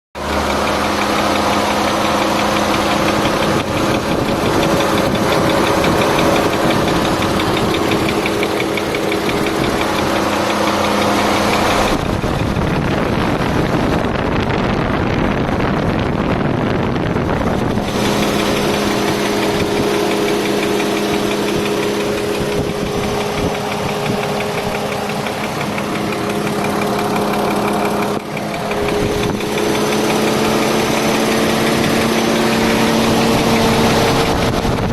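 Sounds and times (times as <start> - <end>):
car engine running with knock: 0.2 - 34.9.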